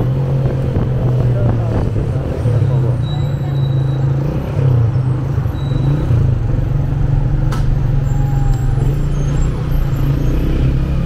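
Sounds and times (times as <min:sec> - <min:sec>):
surrounding car traffic: 0:00.0 - 0:11.0.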